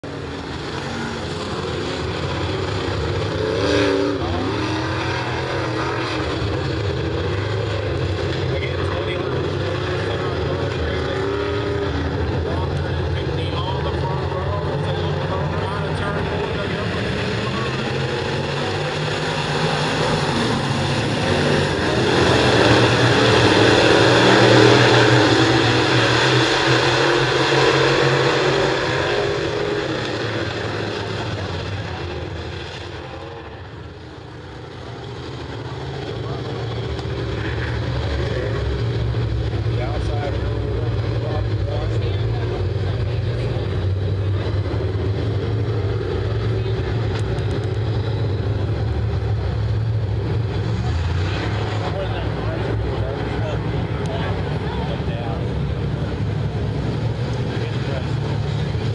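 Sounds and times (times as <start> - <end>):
race car engines roaring: 0.0 - 58.9.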